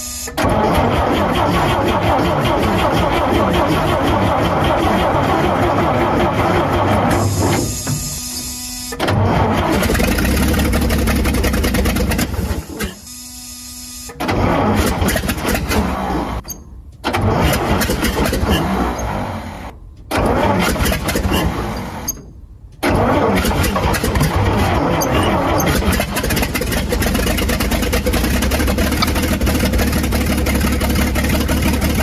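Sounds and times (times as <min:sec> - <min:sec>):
truck engine cranking and starting: 0:00.0 - 0:13.0, 0:14.1 - 0:32.0.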